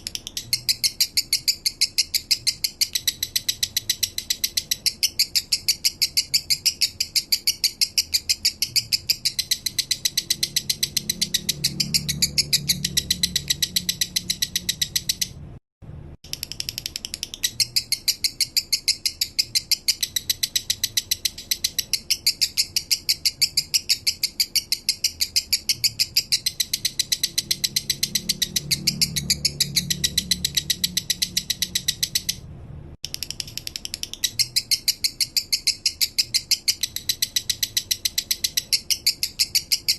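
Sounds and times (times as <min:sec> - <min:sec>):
lovebird chattering song: 0:00.0 - 0:15.4, 0:16.3 - 0:32.4, 0:33.1 - 0:39.9.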